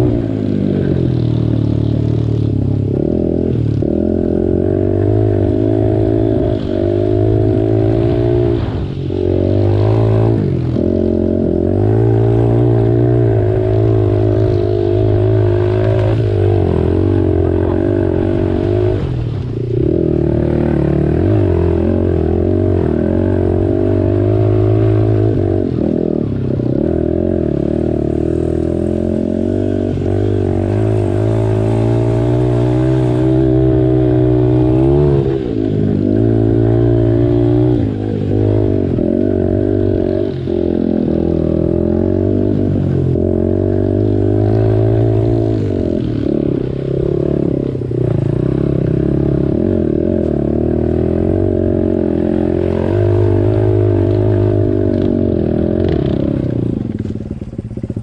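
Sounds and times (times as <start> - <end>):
small motorbike engine revving: 0.0 - 58.0.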